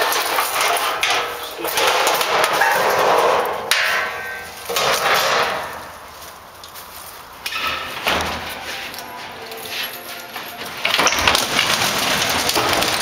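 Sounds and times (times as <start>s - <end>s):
metal scrap clattering: 0.0s - 6.4s, 7.4s - 13.0s.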